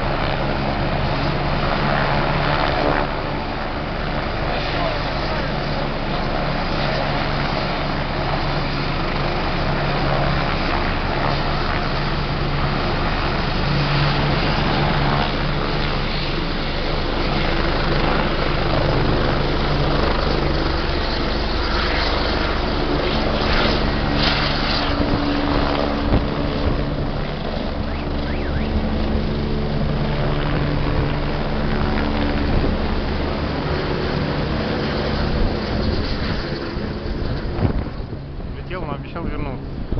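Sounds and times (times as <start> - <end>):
helicopter turbines and rotor: 0.0 - 39.9.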